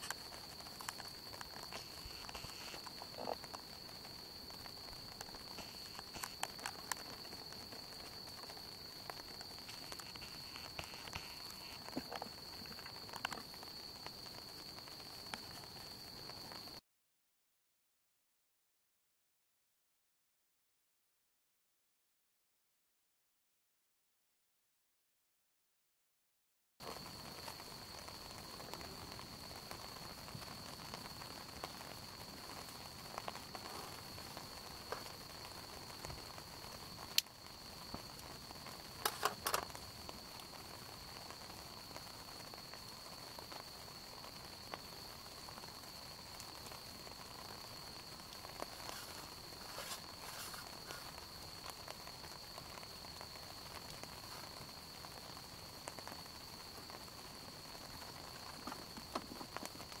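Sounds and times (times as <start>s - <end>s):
campfire crackling and popping: 0.0s - 16.8s, 26.8s - 60.0s.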